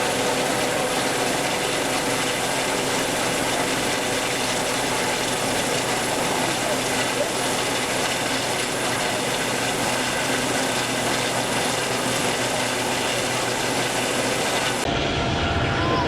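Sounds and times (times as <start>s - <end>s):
loud rattling mechanical noise: 0.0s - 15.7s.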